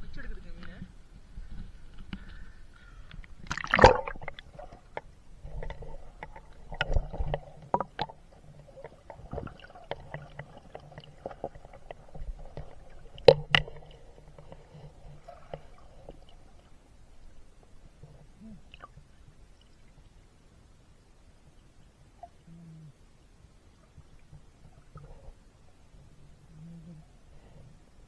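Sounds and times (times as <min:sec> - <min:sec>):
water sloshing and gurgling: 0:00.0 - 0:20.4, 0:23.6 - 0:28.0.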